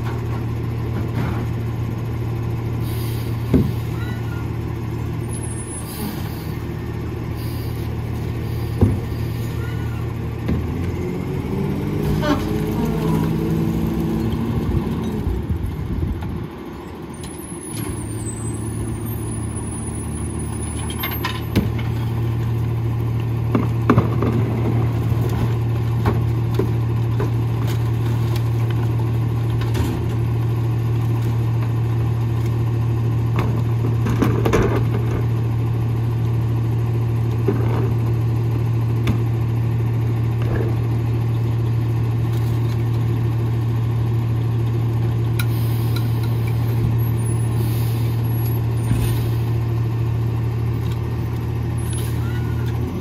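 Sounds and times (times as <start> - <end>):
garbage truck low hum: 0.0 - 53.0.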